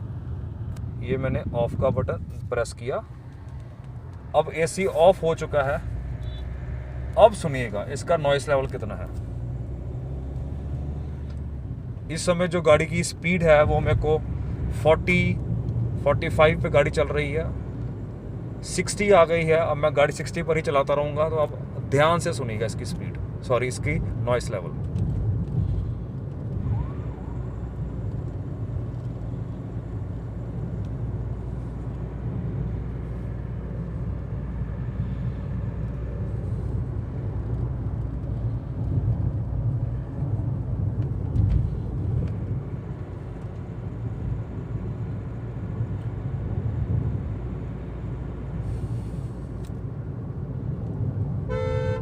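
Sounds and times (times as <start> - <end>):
car cabin road rumble: 0.0 - 52.0.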